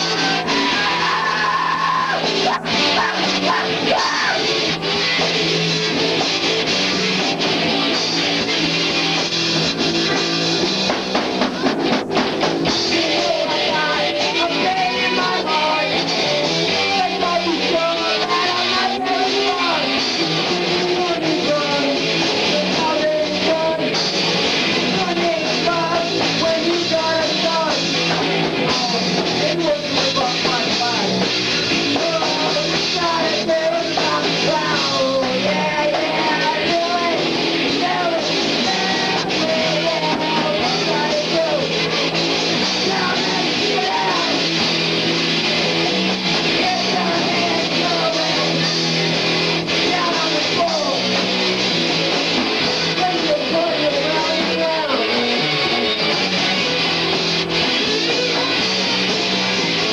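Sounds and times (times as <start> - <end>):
person singing: 0.0 - 6.0, 12.6 - 24.1, 24.7 - 59.9
electric guitar: 0.0 - 59.9
live rock band: 0.0 - 59.9.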